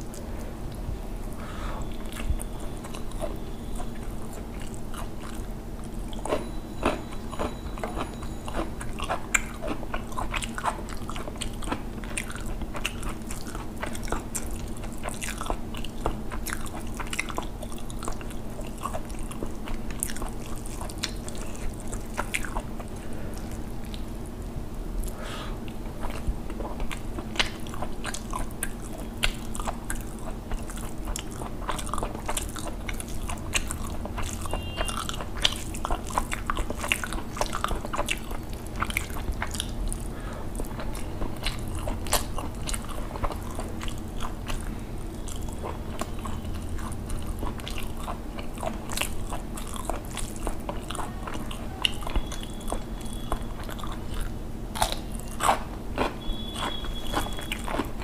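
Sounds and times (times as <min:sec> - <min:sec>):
man chewing food: 0:00.0 - 0:58.0
steady low hum: 0:00.0 - 0:58.0.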